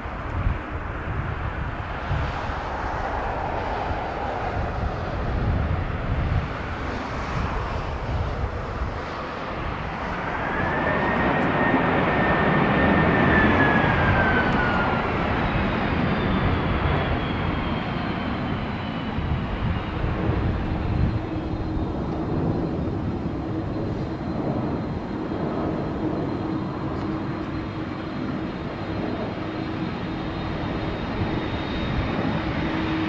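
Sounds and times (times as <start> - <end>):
high jet engine whine: 0.0 - 33.0
jet airliner engine roar: 0.0 - 33.0.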